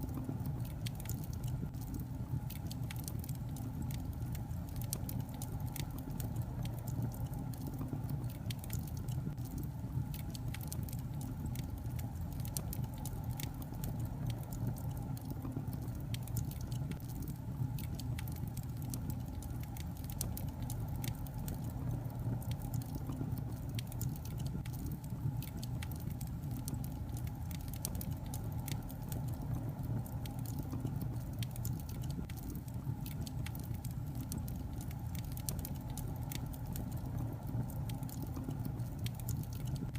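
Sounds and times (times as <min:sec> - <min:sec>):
fire crackles and pops: 0:00.0 - 0:39.9
low rumble of flames: 0:00.0 - 0:39.9.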